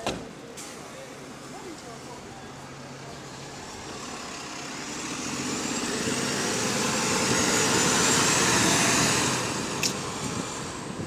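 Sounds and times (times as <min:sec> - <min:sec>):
bus engine pulling away: 0:00.4 - 0:11.0.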